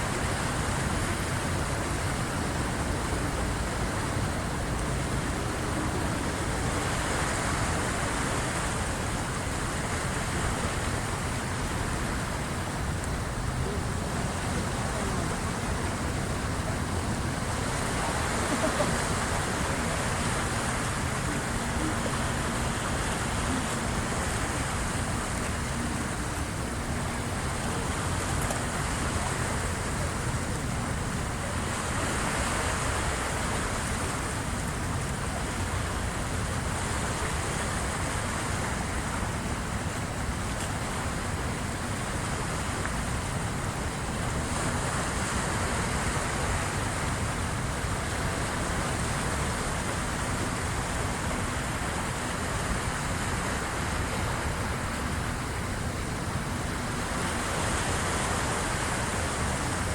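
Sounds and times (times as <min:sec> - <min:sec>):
waves washing against shore: 0:00.0 - 0:59.9
wind: 0:00.0 - 0:59.9.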